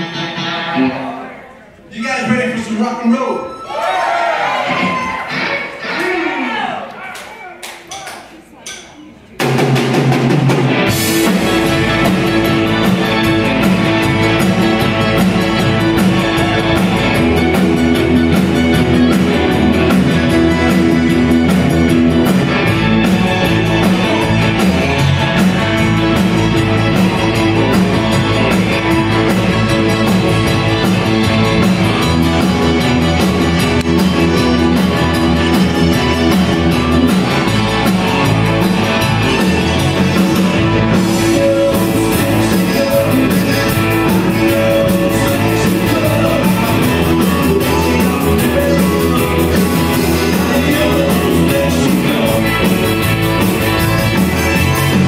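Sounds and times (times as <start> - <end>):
electric guitars: 0.0 - 1.6, 9.4 - 55.0
band playing live: 0.0 - 3.6, 4.4 - 8.4, 9.0 - 55.0
drum kit: 9.4 - 55.0
keyboard: 9.4 - 55.0.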